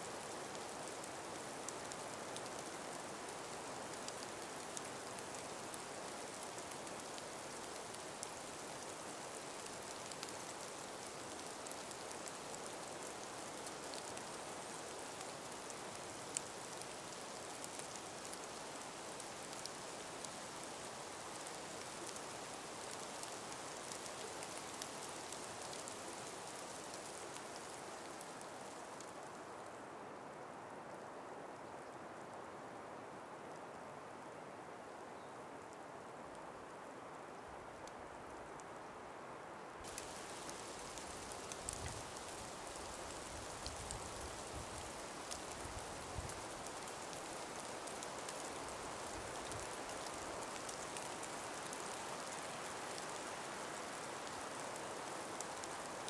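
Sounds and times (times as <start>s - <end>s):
breeze through forest: 0.0s - 56.0s.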